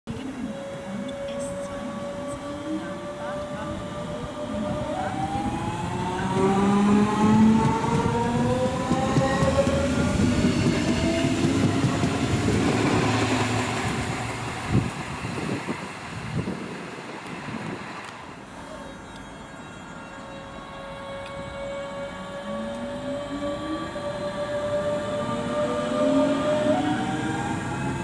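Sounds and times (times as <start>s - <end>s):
electric train whine: 0.1s - 28.0s
wheels rumbling on rail: 0.1s - 28.0s.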